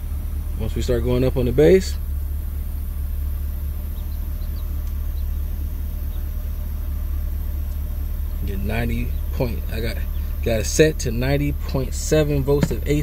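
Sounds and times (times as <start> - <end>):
deep sine test tone hum: 0.0 - 13.0.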